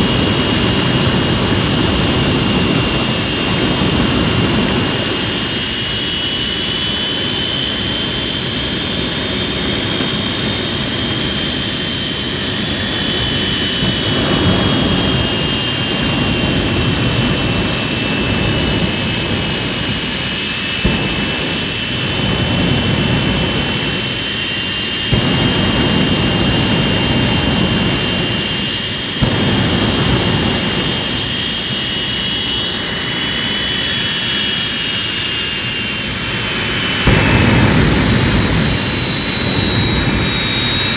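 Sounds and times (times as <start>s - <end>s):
jet engine roaring: 0.0s - 40.9s
turbine whine: 0.0s - 40.9s.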